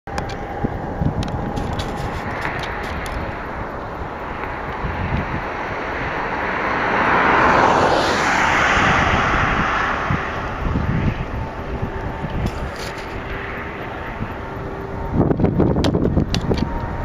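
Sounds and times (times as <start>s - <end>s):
jet engines roaring at takeoff: 0.1s - 17.0s.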